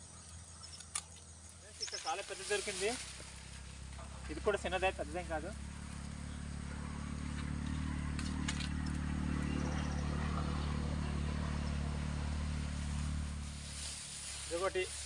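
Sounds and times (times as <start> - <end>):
motor engine humming: 1.8 - 15.0.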